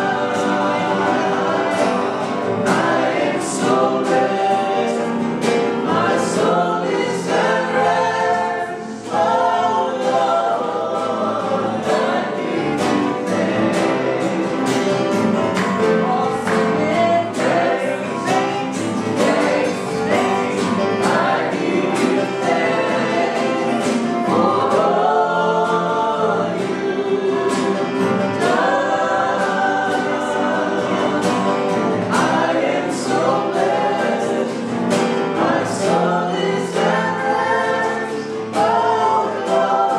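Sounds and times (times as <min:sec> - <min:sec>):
choir singing over a beat: 0:00.0 - 0:39.9.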